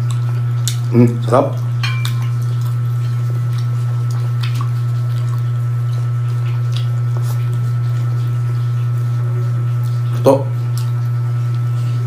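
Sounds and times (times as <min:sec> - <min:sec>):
steady low hum: 0:00.0 - 0:12.0
wet chewing and mouth clicks: 0:00.0 - 0:12.0.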